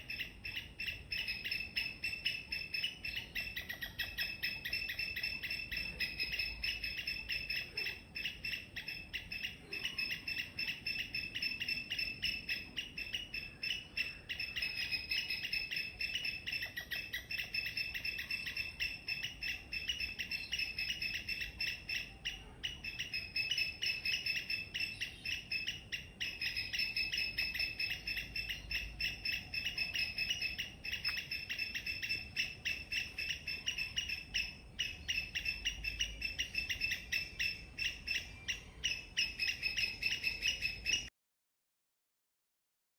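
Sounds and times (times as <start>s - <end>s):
squirrel chirping: 0.0s - 41.1s.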